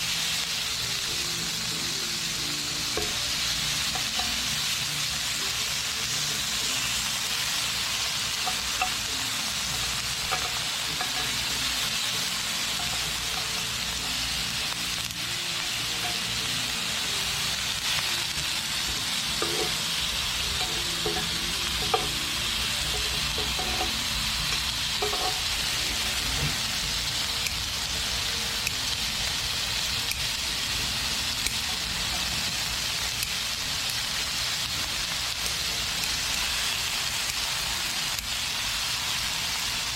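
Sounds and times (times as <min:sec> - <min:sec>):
pork sizzling on a griddle: 0:00.0 - 0:39.9.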